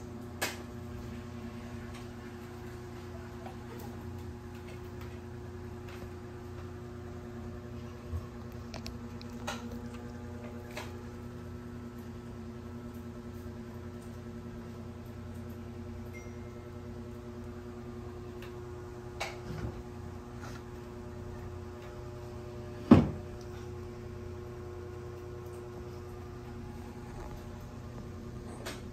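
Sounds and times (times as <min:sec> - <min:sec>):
machine hum: 0:00.0 - 0:28.9.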